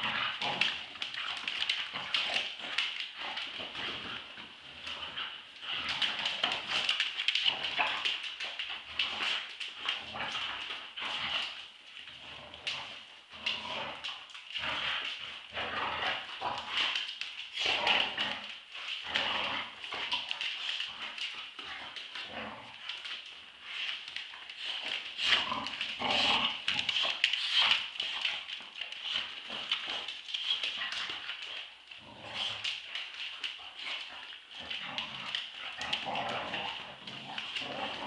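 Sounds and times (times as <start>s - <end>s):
paws scuffling on hard floor: 0.0s - 38.0s.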